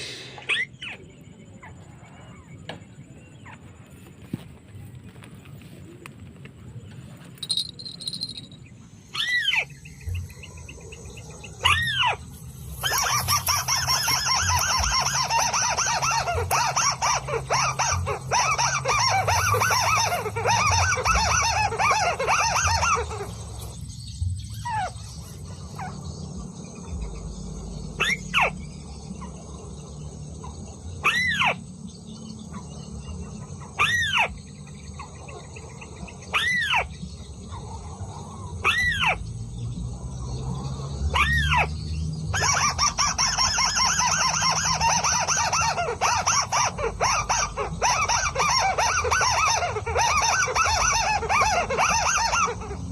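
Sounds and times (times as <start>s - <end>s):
birds chattering: 0.0s - 52.9s.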